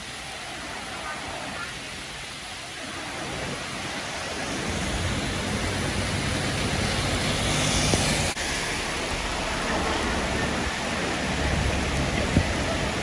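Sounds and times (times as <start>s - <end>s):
floodwater rushing: 0.0s - 13.0s
heavy rain pouring: 0.0s - 13.0s
vehicles wading through water: 0.0s - 13.0s.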